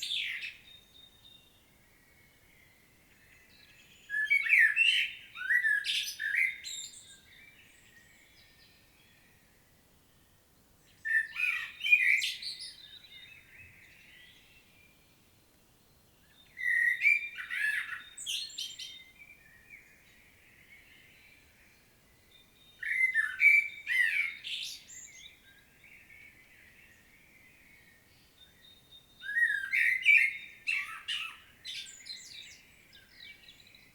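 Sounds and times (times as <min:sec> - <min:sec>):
blackbird singing: 0:00.0 - 0:09.4, 0:10.8 - 0:15.2, 0:15.9 - 0:33.9.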